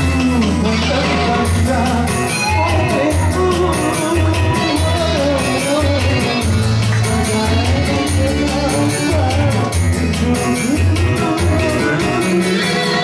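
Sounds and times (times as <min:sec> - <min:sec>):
song with drums and bass: 0:00.0 - 0:13.0.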